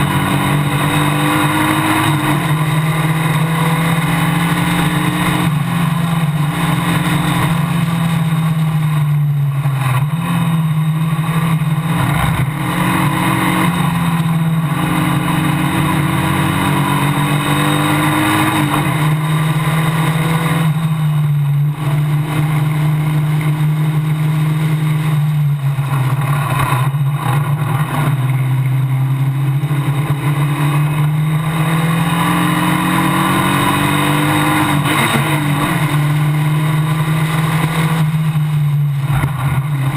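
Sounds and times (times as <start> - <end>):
race car engine: 0.0 - 39.9
wind and road noise: 0.0 - 39.9.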